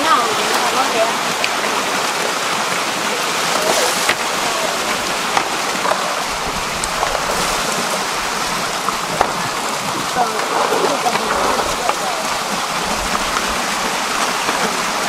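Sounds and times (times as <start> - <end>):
water sloshing: 0.0 - 15.0.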